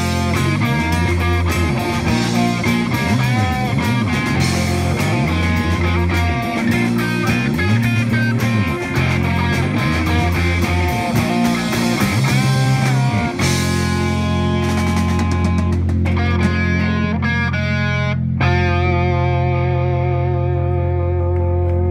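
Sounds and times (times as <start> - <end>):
drum kit: 0.0 - 19.2
bass guitar sliding: 0.0 - 21.9
electric guitars: 0.0 - 21.9.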